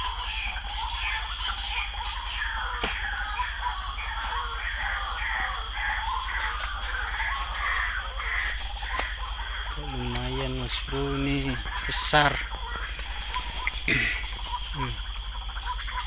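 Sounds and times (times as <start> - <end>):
frog calls: 0.0 - 16.0
insects trilling: 0.0 - 16.0.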